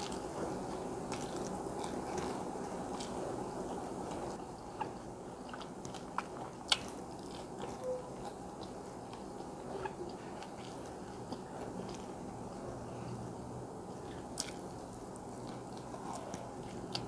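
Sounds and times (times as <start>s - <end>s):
soft chewing: 0.0s - 17.0s
steady low hiss: 0.0s - 17.0s.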